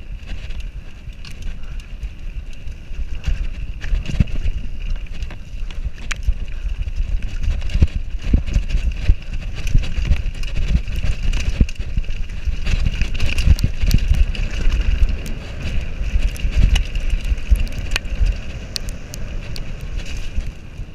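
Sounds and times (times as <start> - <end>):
bike knocking on bumps: 0.0 - 20.9
mountain bike rattling over dirt trail: 0.0 - 20.9
wind rumble: 0.0 - 20.9.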